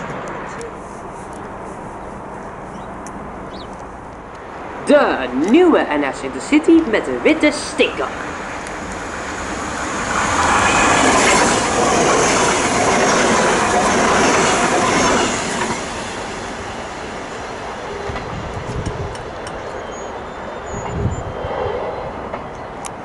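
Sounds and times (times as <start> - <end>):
distant train running: 0.0 - 23.0
train passing at speed: 0.0 - 23.0.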